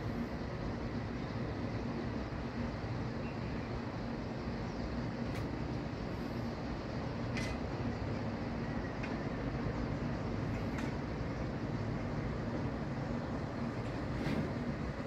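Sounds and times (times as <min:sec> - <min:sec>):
distant city traffic rumble: 0:00.0 - 0:15.0.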